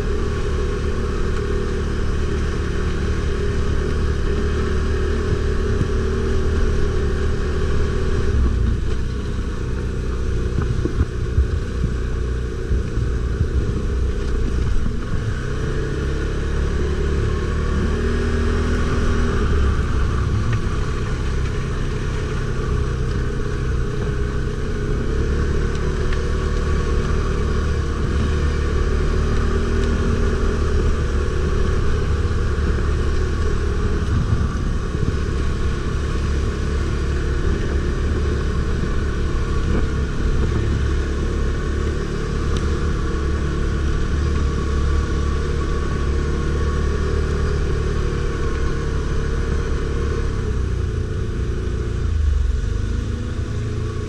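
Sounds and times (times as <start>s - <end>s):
quad bike engine under load: 0.0s - 54.0s.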